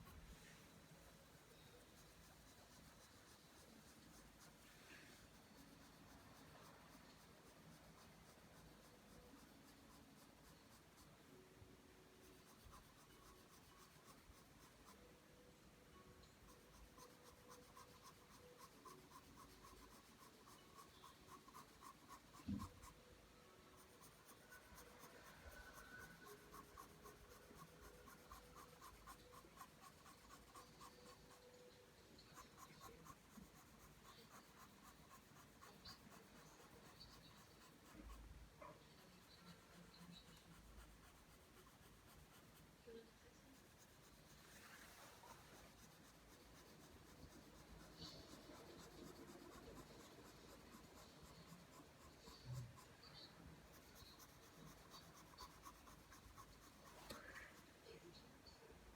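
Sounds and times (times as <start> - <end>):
pencil scratching on paper: 0.0 - 58.6.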